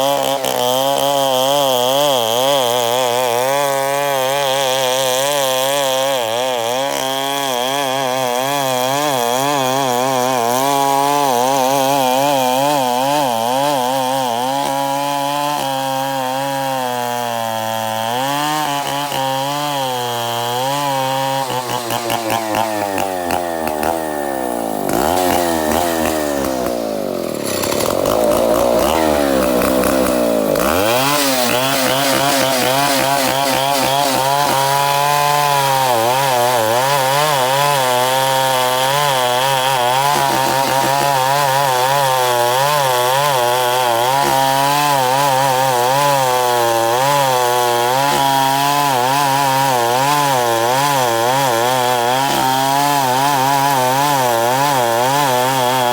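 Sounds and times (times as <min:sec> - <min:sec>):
chainsaw sawing wood: 0:00.0 - 0:55.9.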